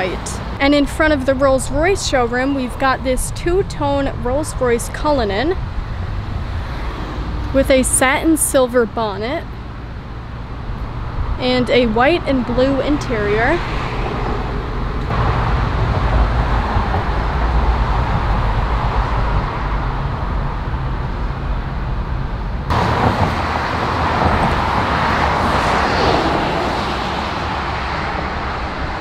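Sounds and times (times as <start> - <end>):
passing cars rumble and hiss: 0.0 - 29.0.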